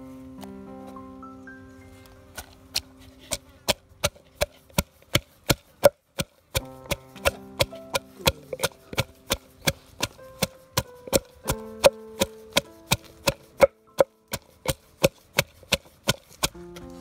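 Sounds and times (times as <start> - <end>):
soft held music notes: 0.0 - 4.7, 6.6 - 15.0, 16.5 - 17.0
knife chopping on cutting board: 2.4 - 17.0.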